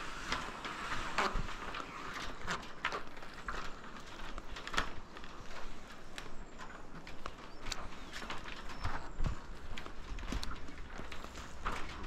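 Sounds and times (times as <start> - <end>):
footsteps on wooden planks: 0.0 - 12.0.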